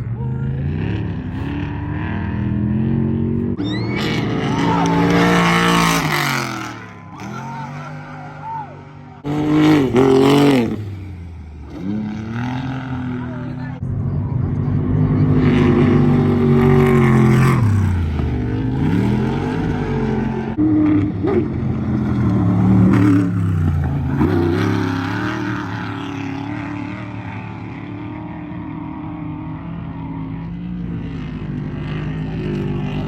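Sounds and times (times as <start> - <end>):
race truck engines revving: 0.0 - 33.0.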